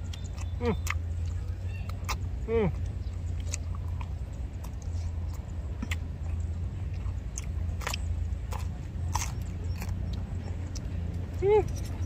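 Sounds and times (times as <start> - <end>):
person chewing and smacking: 0.0 - 12.0
steady low hum: 0.0 - 12.0.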